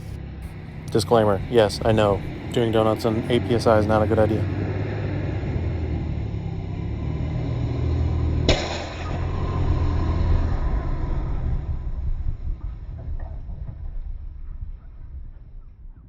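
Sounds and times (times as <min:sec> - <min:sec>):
pickup truck engine running: 0:00.0 - 0:15.0
tire blowing off bead bang: 0:00.0 - 0:15.3.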